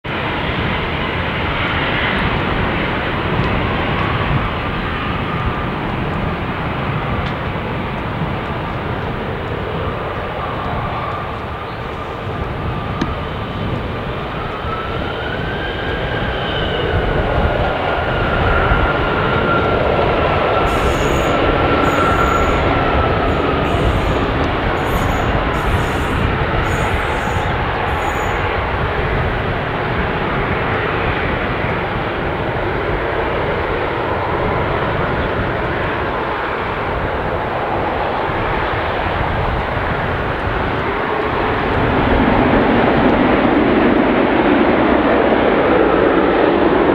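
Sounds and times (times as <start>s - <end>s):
jet engines whining and roaring: 0.0s - 46.9s
wind buffeting microphone: 0.0s - 46.9s.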